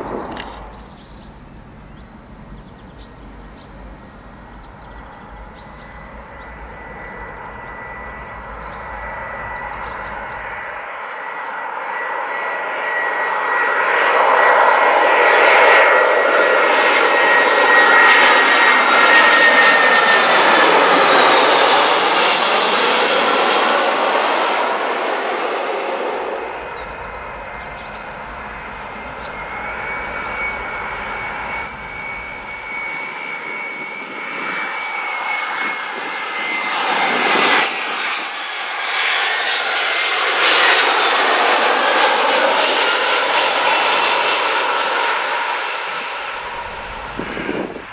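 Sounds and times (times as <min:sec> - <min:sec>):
jet airliner passing overhead: 0:00.0 - 0:47.9.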